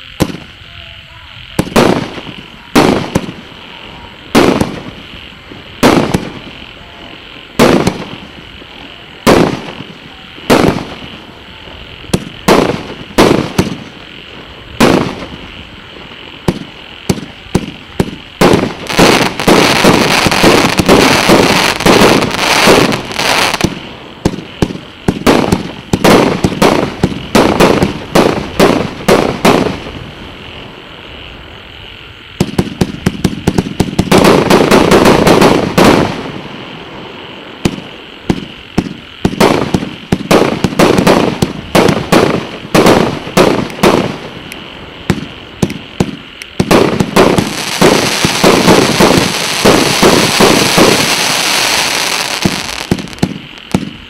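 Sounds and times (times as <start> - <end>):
firework shots and bursts: 0.0 - 54.0.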